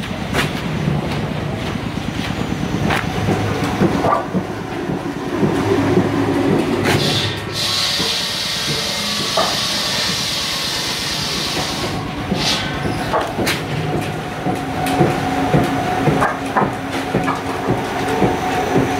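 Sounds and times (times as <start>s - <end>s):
machine rumble and rattle: 0.0s - 10.4s, 11.3s - 18.9s.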